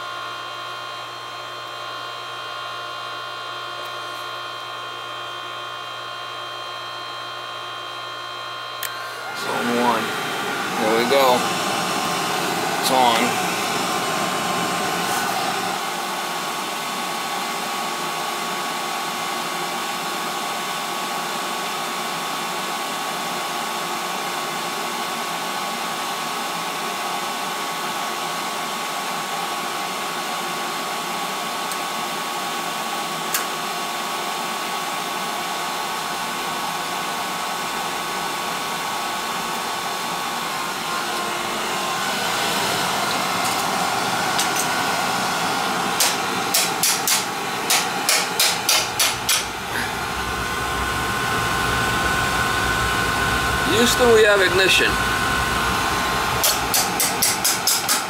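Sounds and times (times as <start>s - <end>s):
burner blower fan whining: 0.0s - 58.0s.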